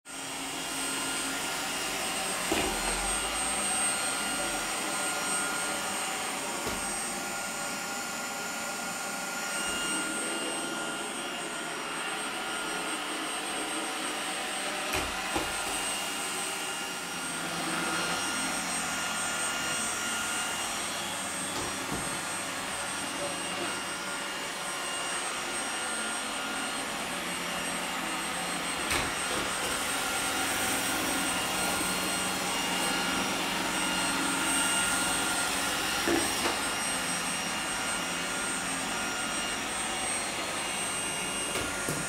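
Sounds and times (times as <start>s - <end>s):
robot vacuum whirring: 0.2s - 42.0s.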